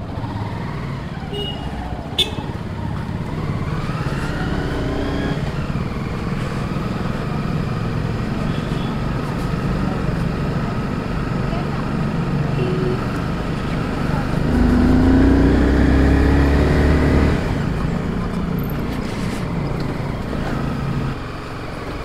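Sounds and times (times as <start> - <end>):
motorcycle engine revving: 0.0 - 8.4, 10.8 - 21.8.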